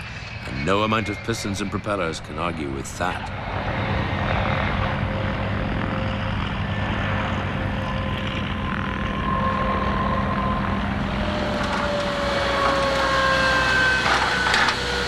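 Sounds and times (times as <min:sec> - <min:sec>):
jet engines rushing and whining: 0:00.0 - 0:15.0.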